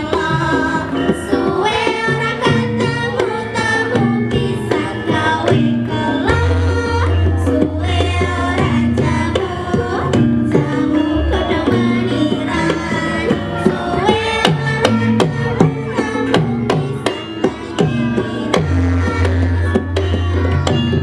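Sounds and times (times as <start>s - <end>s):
hand-drum strokes: 0.0s - 21.0s
metallophones ringing melodic notes: 0.0s - 21.0s.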